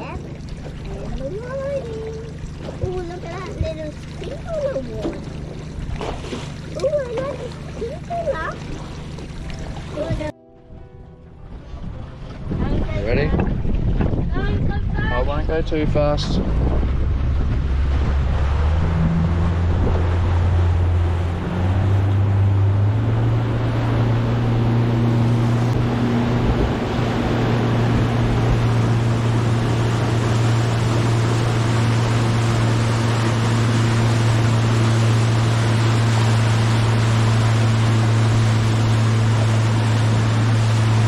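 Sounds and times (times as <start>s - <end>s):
water rushing over hull: 0.0s - 10.4s, 11.0s - 41.0s
outboard motor running: 0.0s - 41.0s.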